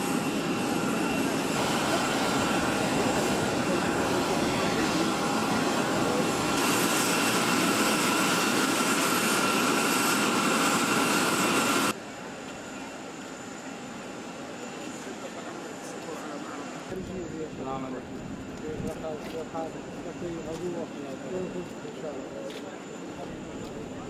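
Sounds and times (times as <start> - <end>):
jet aircraft roar: 0.0 - 24.0.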